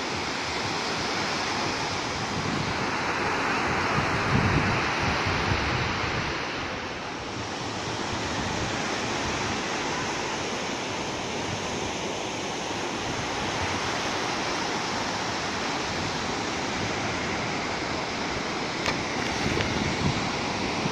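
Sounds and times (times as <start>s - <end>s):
small waves washing up a beach: 0.0s - 20.9s
wind rumbling on microphone: 0.0s - 20.9s.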